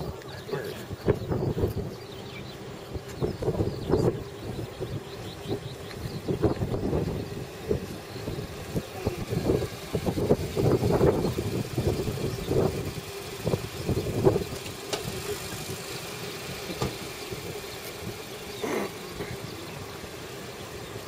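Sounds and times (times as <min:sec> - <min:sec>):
wind buffeting microphone: 0:00.0 - 0:20.1
car engine humming: 0:00.0 - 0:21.0.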